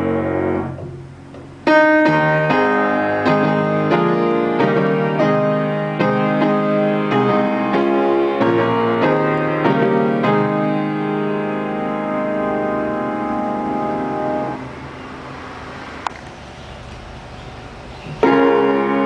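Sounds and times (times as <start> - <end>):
piano chords and melody: 0.0 - 16.0, 17.7 - 19.0.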